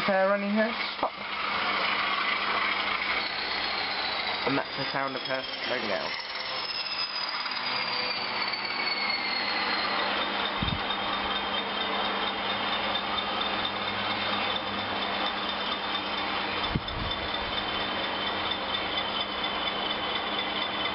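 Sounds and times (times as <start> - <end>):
model locomotive motor whine: 0.0 - 20.9
steady hum: 0.0 - 20.9
wheels rattling on rails: 0.0 - 20.9.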